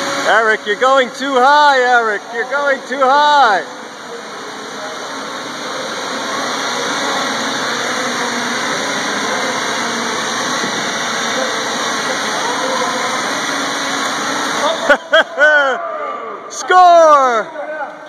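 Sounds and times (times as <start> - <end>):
drone propellers whirring: 0.0 - 17.4.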